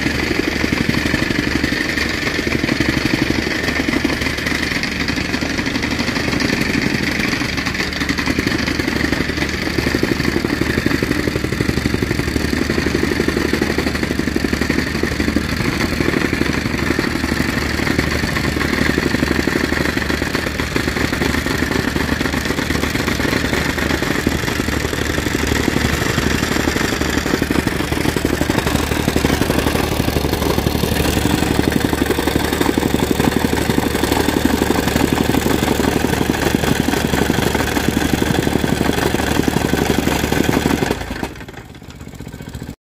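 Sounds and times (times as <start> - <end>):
soil compactor engine pulsing: 0.0 - 42.8.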